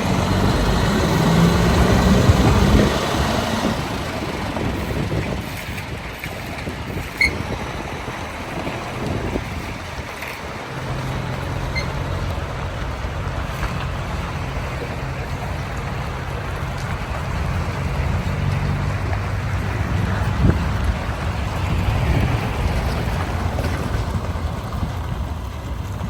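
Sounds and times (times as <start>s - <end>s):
diesel engine humming: 0.0s - 26.0s
wind buffeting microphone: 0.0s - 26.0s.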